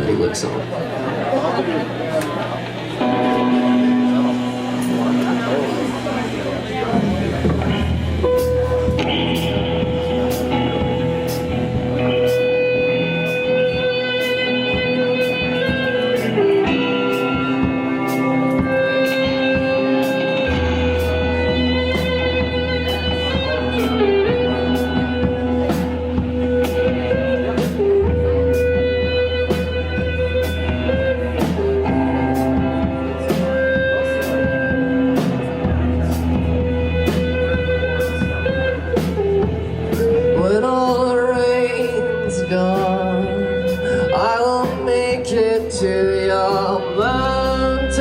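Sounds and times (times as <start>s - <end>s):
live band with lead guitar: 0.0s - 48.0s
low bass: 1.8s - 48.0s.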